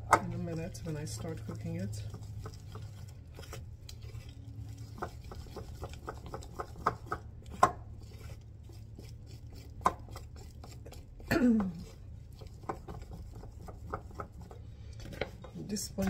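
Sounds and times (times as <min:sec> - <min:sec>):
utensil tapping and scraping bowl: 0:00.0 - 0:16.0.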